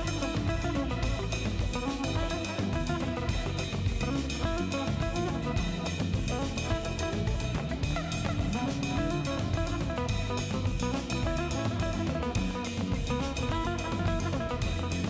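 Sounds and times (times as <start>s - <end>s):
drum kit beat: 0.0s - 15.0s
guitar: 0.0s - 15.0s.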